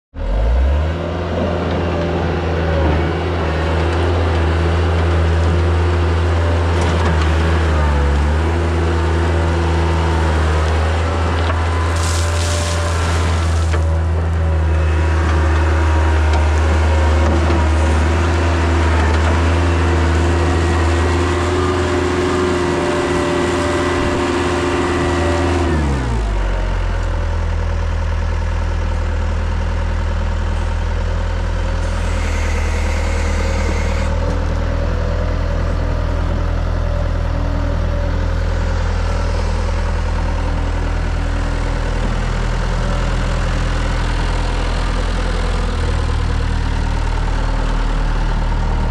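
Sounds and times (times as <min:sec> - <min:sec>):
diesel engine running: 0:00.2 - 0:48.9.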